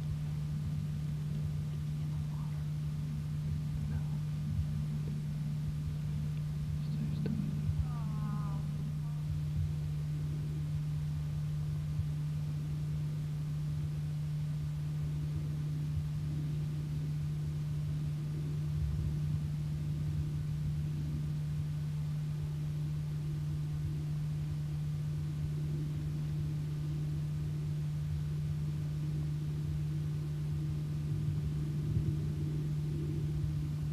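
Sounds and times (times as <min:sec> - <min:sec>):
faint rumbling noise: 0:00.0 - 0:33.9
steady low hum: 0:00.0 - 0:33.9.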